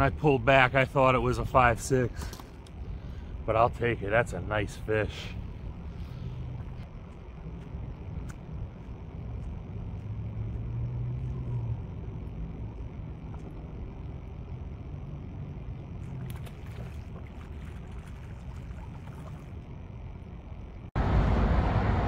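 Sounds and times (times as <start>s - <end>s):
deep engine hum: 0.0s - 22.0s
distant road traffic rumble: 0.0s - 22.0s.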